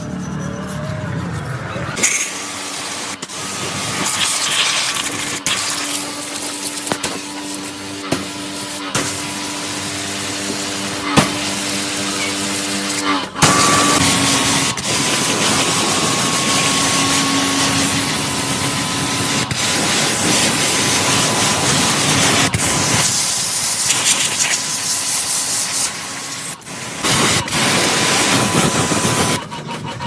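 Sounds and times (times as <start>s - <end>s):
high-pressure spray hissing: 2.0s - 29.4s.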